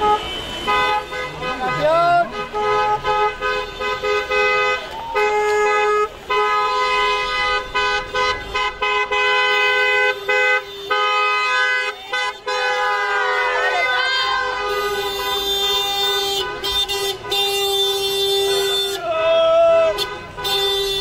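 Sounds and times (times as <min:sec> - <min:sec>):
car horns honking: 0:00.0 - 0:21.0.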